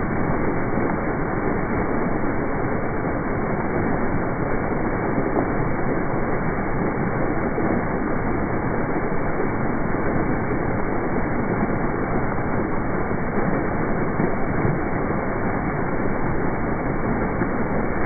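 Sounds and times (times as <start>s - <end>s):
fountain water splashing: 0.0s - 18.0s.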